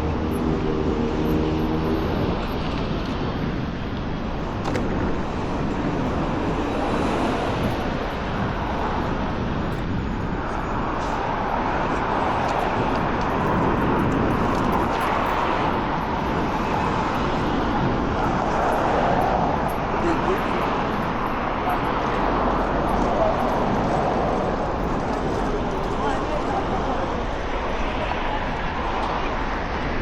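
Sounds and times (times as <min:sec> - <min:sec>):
city traffic passing: 0:00.0 - 0:30.0.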